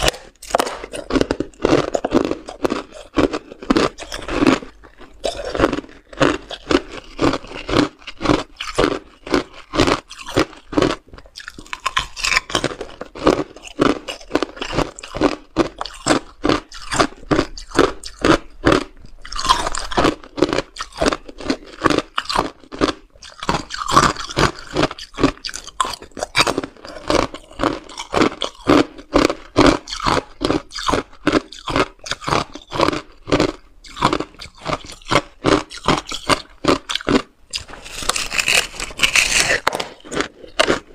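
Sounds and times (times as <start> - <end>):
crunching and chewing ice: 0.0 - 40.9.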